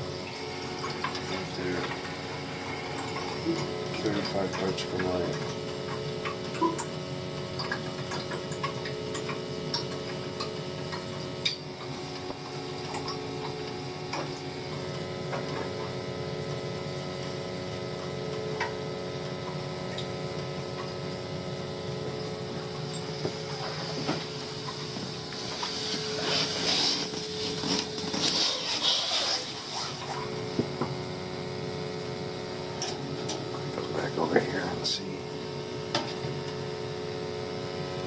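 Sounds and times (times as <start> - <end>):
boiler humming: 0.0 - 38.0.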